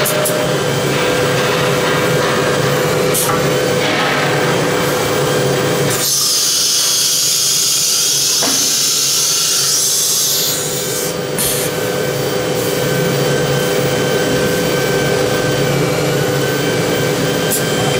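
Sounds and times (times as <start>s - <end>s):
steady machine hum: 0.0s - 17.9s.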